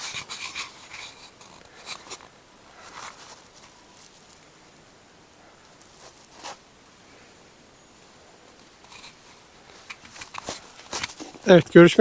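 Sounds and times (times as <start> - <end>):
faint rustles and scuffs: 0.0 - 7.4, 8.4 - 12.0.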